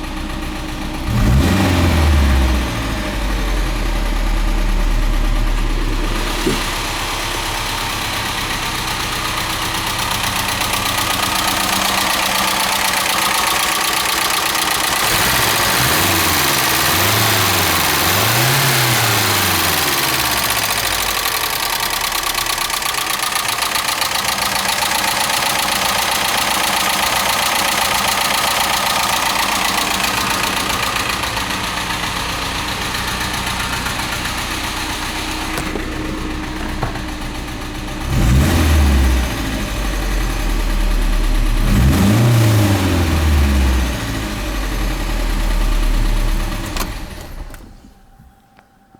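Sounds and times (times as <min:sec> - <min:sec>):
car engine idling and revving: 0:00.0 - 0:48.2.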